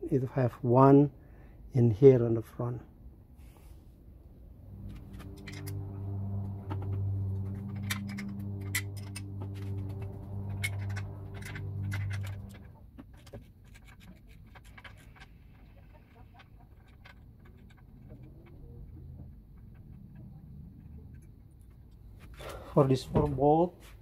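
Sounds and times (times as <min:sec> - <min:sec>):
steady low hum: 0:02.9 - 0:24.0.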